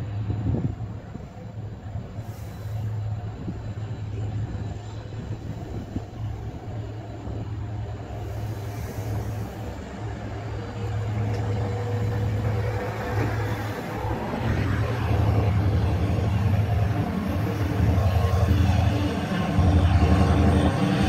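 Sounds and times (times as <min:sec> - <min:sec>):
diesel locomotive engine working hard: 0:00.0 - 0:21.0.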